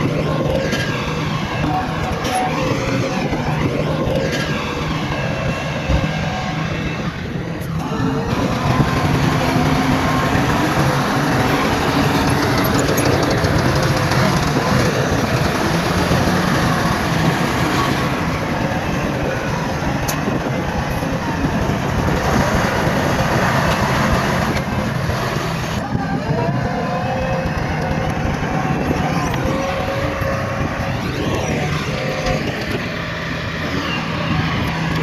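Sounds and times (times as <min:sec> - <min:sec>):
bulldozer diesel engine under load: 0:00.0 - 0:35.0
high whine: 0:00.0 - 0:35.0.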